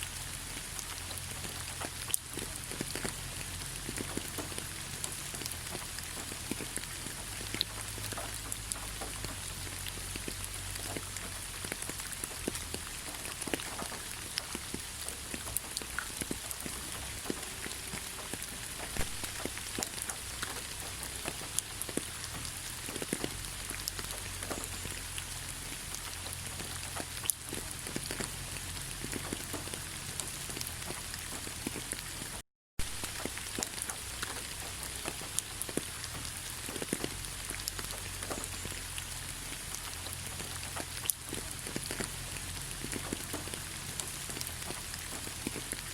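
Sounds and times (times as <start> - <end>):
steady rain: 0.0 - 45.9
raindrop hits: 0.4 - 45.9.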